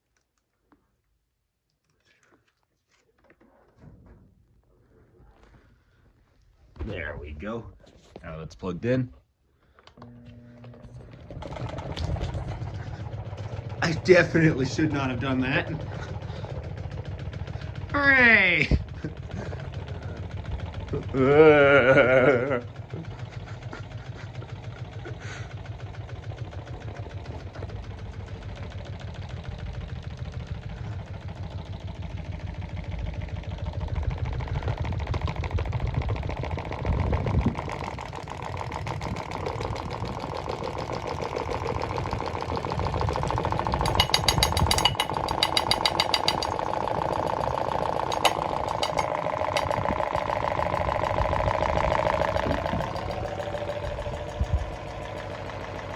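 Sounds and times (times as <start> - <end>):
electric device chugging: 9.6 - 55.9
steady whine: 9.8 - 55.9
sharp clattering: 11.0 - 55.9.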